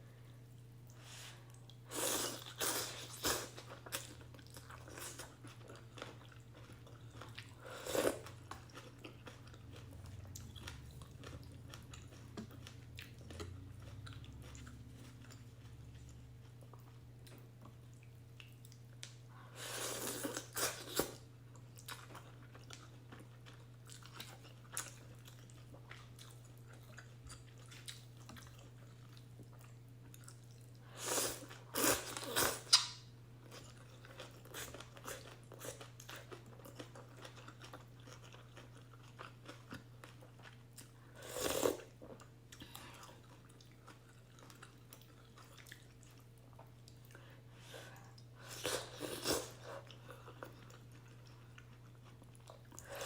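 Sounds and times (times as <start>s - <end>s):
person chewing noodles: 1.5s - 53.0s.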